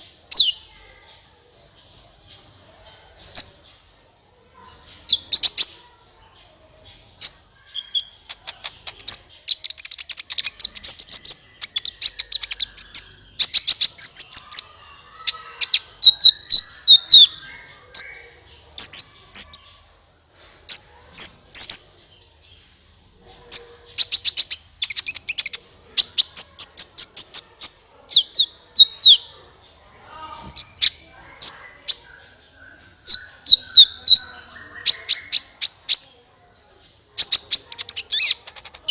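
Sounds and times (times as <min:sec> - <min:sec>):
sunbird chirps and trills: 0:00.0 - 0:38.9.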